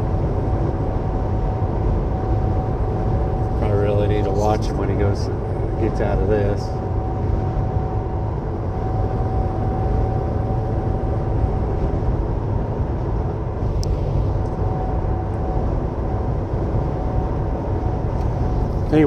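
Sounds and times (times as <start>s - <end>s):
faint steady whine: 0.0s - 19.0s
truck engine and tyres rumbling: 0.0s - 19.0s.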